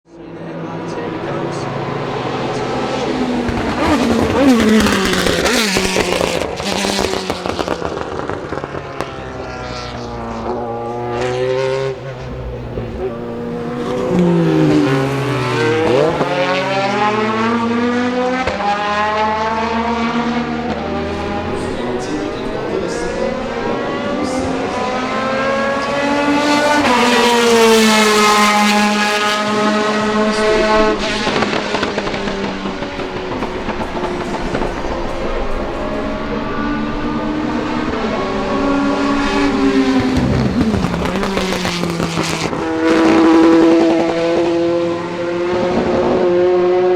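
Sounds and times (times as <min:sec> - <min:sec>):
race car engines revving: 0:00.1 - 0:46.9.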